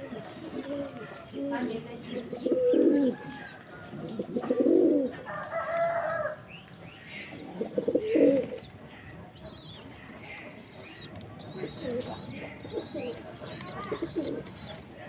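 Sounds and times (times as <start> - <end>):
pigeon cooing: 0.0 - 6.4, 7.2 - 8.8, 9.4 - 14.8
small birds chirping: 0.0 - 15.0.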